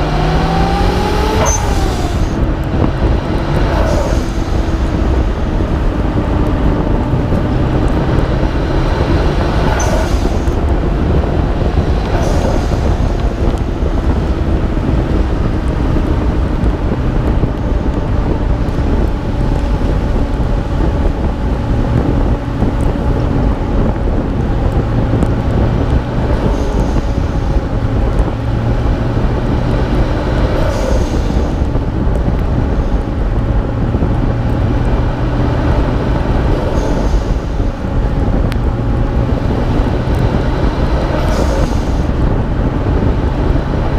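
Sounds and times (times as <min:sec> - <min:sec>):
car engine running under load: 0:00.0 - 0:43.9
road noise: 0:00.0 - 0:43.9
wind noise on microphone: 0:00.0 - 0:43.9.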